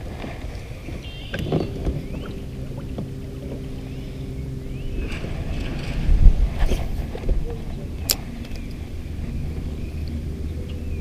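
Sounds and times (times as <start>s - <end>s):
low rumble: 0.0s - 11.0s
electric trolling motor humming: 0.3s - 11.0s.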